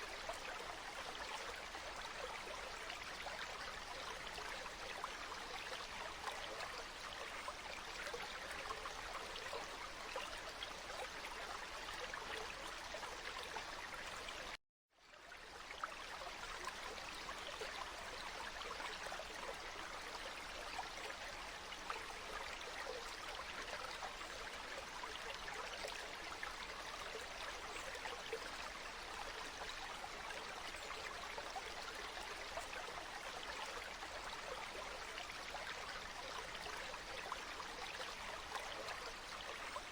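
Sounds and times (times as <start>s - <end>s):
water babbling in a stream: 0.0s - 39.9s.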